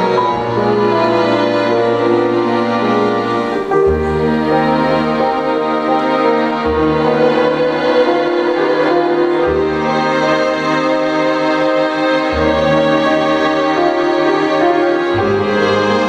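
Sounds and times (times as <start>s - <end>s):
grand piano playing: 0.0s - 16.0s.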